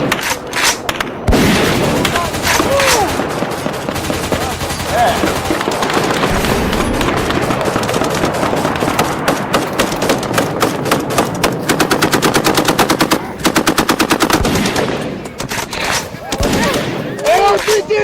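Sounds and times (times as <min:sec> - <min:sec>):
rapid automatic gunfire: 0:00.0 - 0:18.0.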